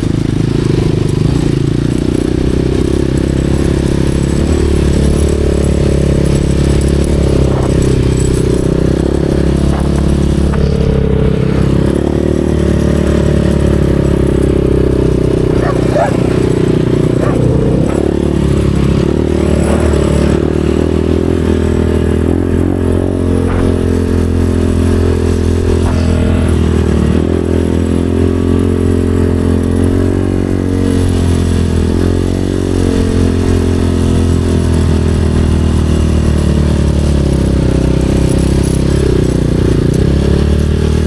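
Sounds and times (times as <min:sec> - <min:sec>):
dirt bike engine running: 0:00.0 - 0:41.0.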